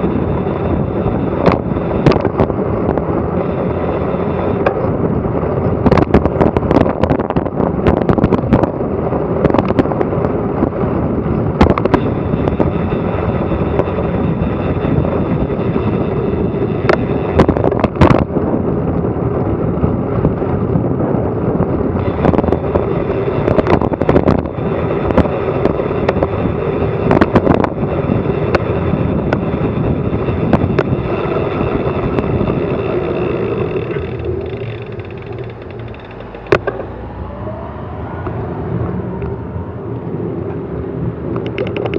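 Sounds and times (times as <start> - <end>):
bicycle knocks and rattles: 0.0 - 20.9, 21.9 - 36.9, 41.3 - 41.9
road rumble: 0.0 - 41.9
wind buffeting microphone: 0.0 - 41.9.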